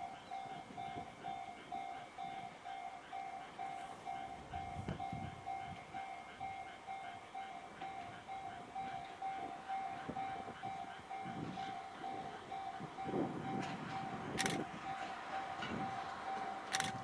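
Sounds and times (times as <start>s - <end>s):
level-crossing electronic bell: 0.0s - 16.7s
train rumble: 0.0s - 17.0s.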